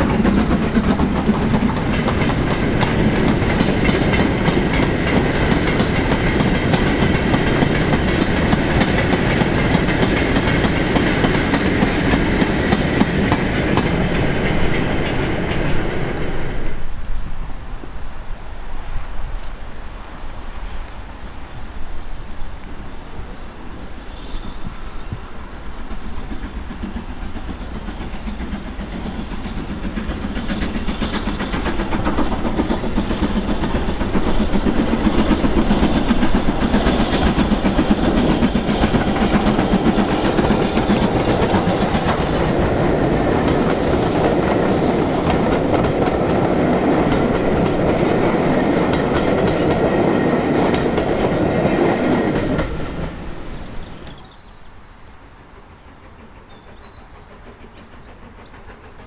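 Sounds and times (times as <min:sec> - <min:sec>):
train wheels clicking over joints: 0:00.0 - 0:17.9, 0:24.3 - 0:59.0.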